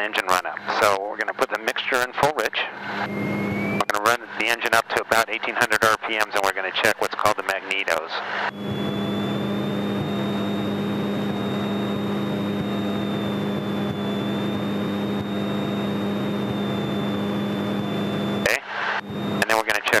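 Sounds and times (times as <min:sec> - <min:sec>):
airplane engine and propeller drone: 0:00.0 - 0:20.0
high-pitched whine: 0:00.0 - 0:20.0.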